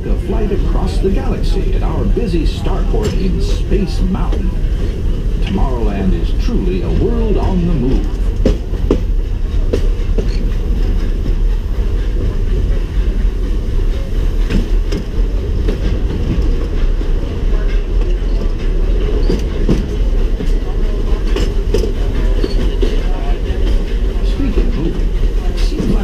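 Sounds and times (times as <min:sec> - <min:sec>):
train car rumbling: 0:00.0 - 0:26.0
wheels clacking over rails: 0:00.0 - 0:26.0.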